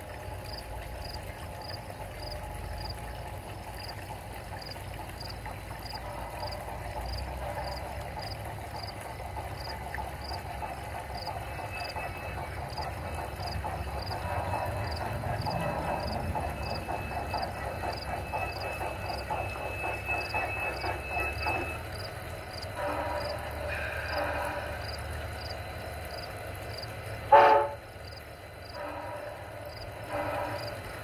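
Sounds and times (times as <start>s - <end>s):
model locomotive wheels clattering: 0.0s - 31.0s.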